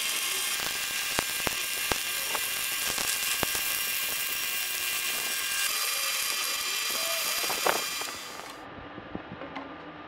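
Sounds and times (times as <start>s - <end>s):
welding arc crackling: 0.0s - 8.6s.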